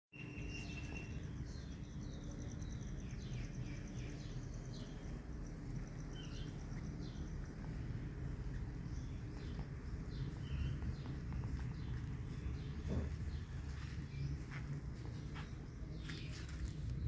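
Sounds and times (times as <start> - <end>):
birds chirping: 0.1 - 17.0
low background rumble: 1.2 - 17.0.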